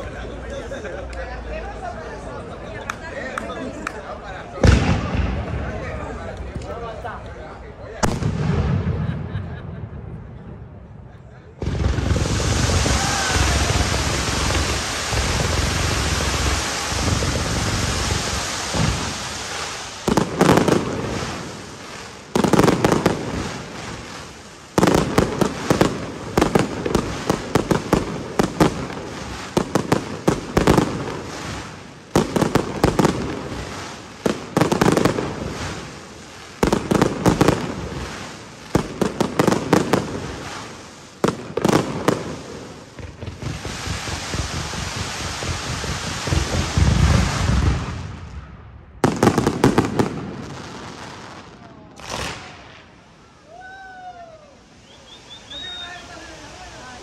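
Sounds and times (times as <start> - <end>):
firework bangs and crackle: 0.0 - 57.0
rushing firework crackle: 0.0 - 57.0.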